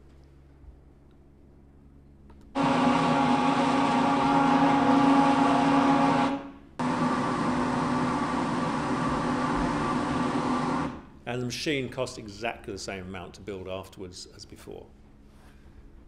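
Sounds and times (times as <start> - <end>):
air compressor hum over loudspeakers: 0.0 - 16.0.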